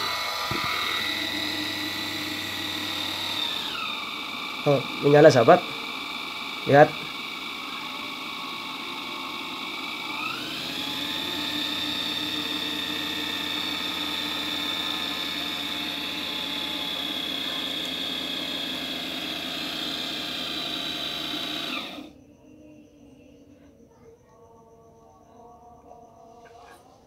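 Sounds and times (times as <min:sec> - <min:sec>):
electric motor whine: 0:00.0 - 0:22.2.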